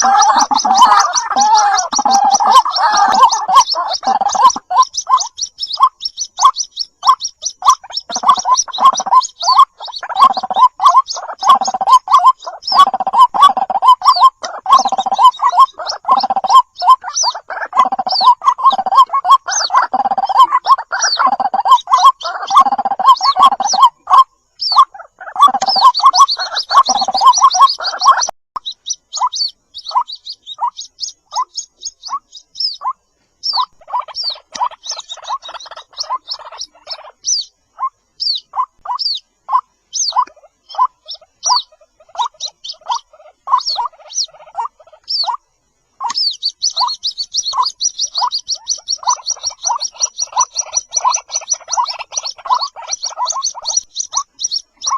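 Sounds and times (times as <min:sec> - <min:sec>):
waterhen calling: 0:00.0 - 0:54.9.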